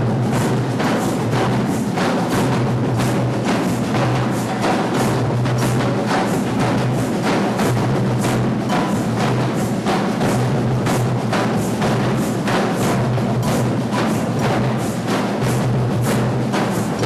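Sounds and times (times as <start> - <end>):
percussion group drumming: 0.0 - 17.0.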